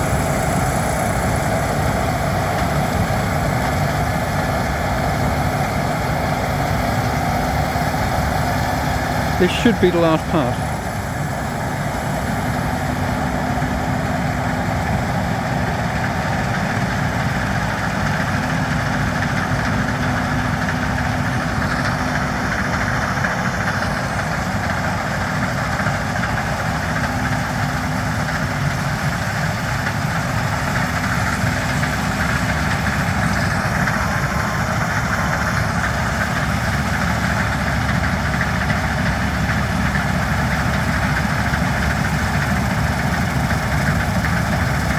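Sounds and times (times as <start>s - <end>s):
combine harvester droning: 0.0s - 44.9s.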